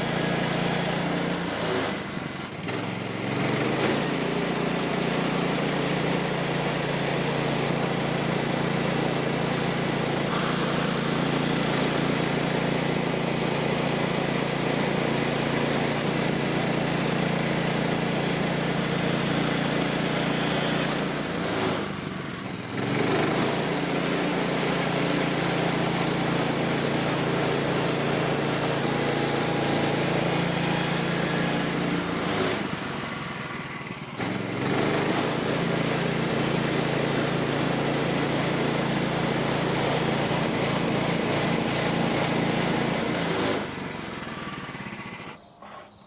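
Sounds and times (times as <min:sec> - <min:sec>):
small gasoline engine running: 0:00.0 - 0:46.0.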